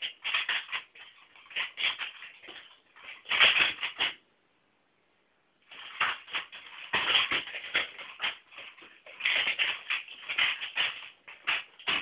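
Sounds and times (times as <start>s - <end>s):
nunchaku clacking and rattling: 0.0s - 4.2s, 5.7s - 12.0s.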